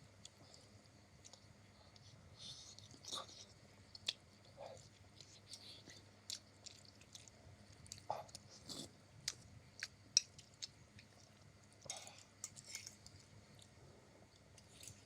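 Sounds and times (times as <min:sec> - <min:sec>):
person chewing noodles: 0:00.2 - 0:15.0.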